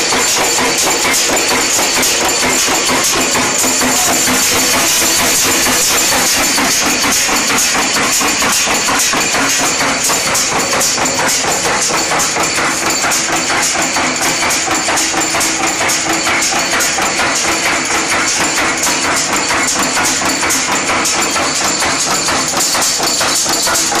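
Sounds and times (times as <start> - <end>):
machine hum: 0.0 - 24.0
nail making machine clatter: 0.0 - 24.0.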